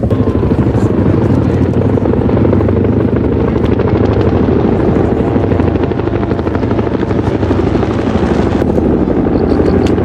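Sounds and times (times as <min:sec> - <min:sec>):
helicopter engine drone: 0:00.0 - 0:10.0
helicopter rotor chop: 0:00.0 - 0:10.0.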